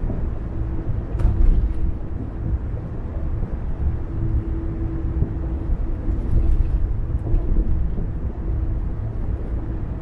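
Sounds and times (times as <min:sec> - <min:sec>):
car tyres and engine rumble: 0:00.0 - 0:10.0
faint steady hum: 0:00.0 - 0:10.0.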